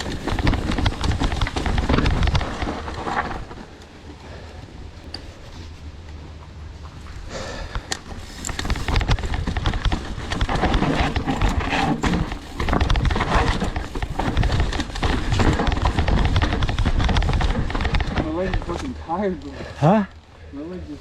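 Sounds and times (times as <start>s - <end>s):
wind rumbling on microphone: 0.0s - 19.1s
bike knocking and rattling over rocks: 0.0s - 20.0s.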